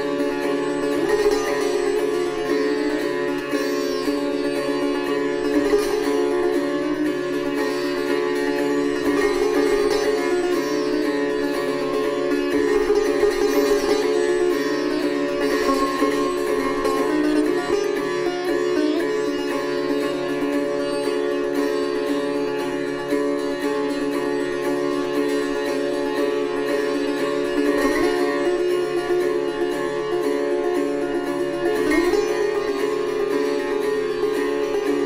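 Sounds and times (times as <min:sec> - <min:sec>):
sitar playing: 0:00.0 - 0:35.0.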